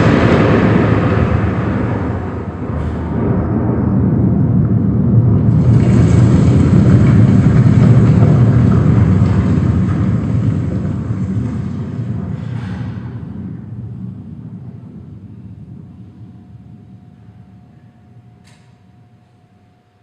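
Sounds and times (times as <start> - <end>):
deep thunder rumble: 0.0 - 19.2.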